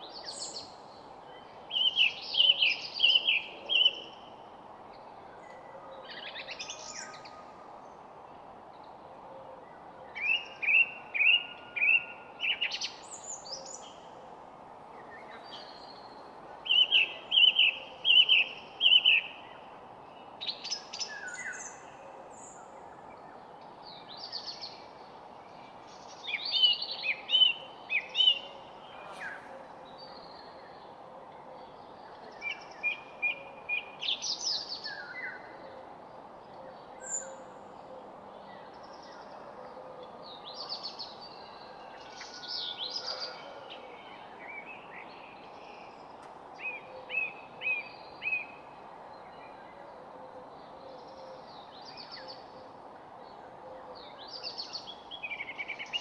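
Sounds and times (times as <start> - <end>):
low background hiss: 0.0 - 56.0.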